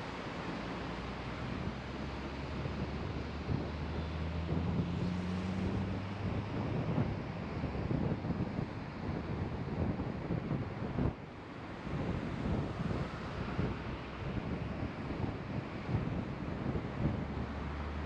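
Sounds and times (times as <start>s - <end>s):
car engine droning: 0.0s - 10.4s, 11.0s - 18.0s
road and wind noise: 0.0s - 18.0s.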